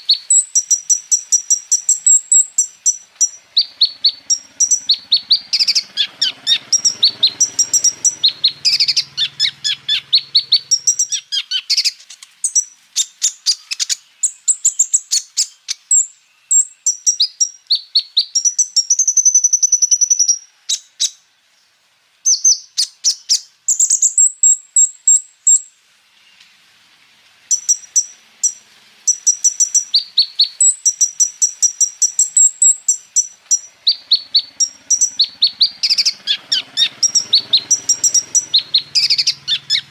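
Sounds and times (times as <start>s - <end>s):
sunbird singing rapid chirps and trills: 0.0s - 39.9s.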